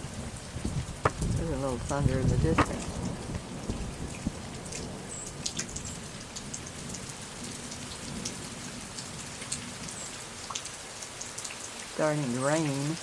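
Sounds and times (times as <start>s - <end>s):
raindrops ticking: 0.0s - 13.0s.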